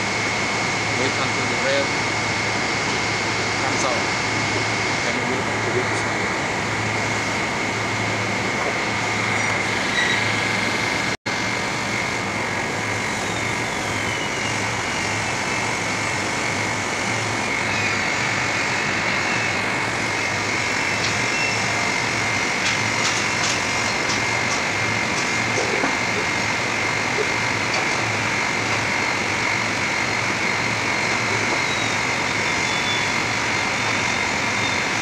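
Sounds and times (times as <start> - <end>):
high whine: 0.0 - 35.0
pulsing low hum: 0.0 - 35.0
refrigeration unit whirring: 0.0 - 35.0.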